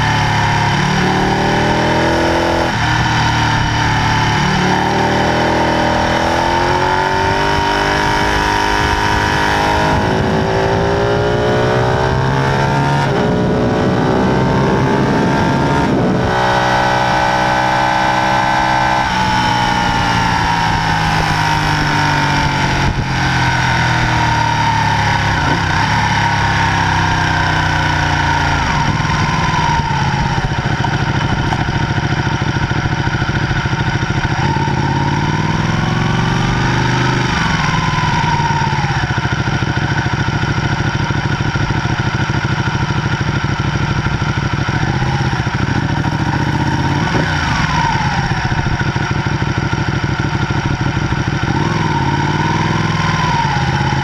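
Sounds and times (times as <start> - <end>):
motorcycle engine decelerating: 0.0 - 54.0.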